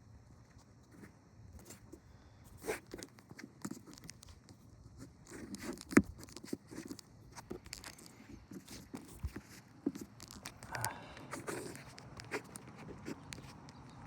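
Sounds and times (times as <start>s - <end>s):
rustling: 0.5s - 14.0s.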